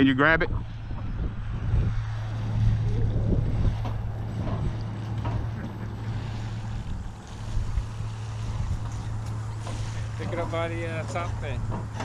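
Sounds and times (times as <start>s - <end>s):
steady low hum: 0.0s - 12.0s
wind buffeting microphone: 0.0s - 12.0s.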